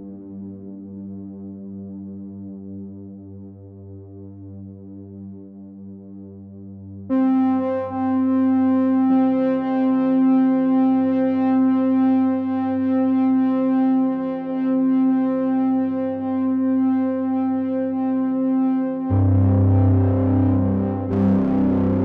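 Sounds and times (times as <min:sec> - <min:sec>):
droning synthesizer chords: 0:00.0 - 0:22.0.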